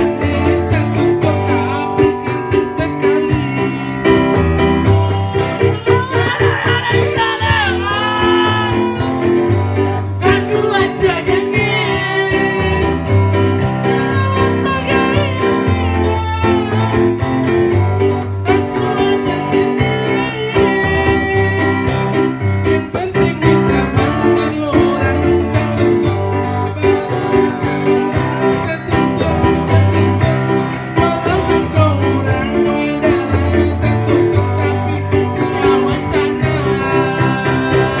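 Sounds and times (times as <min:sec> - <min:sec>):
man singing into microphone: 0:00.0 - 0:04.5, 0:05.5 - 0:17.8, 0:18.4 - 0:38.0
second man singing: 0:00.0 - 0:04.8, 0:05.4 - 0:17.8, 0:18.4 - 0:38.0
strummed acoustic guitar: 0:00.0 - 0:38.0.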